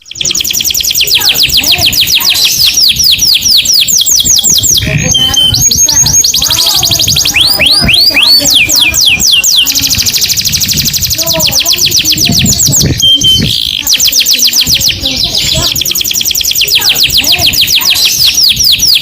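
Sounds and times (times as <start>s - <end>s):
canary singing: 0.0s - 19.0s.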